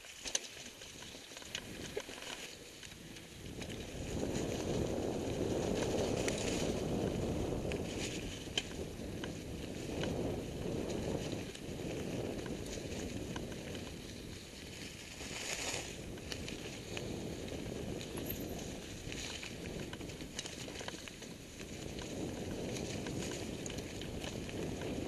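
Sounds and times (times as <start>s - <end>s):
bike rattling and clicking: 0.0s - 25.0s
bike tyres rolling over dirt: 0.0s - 25.0s.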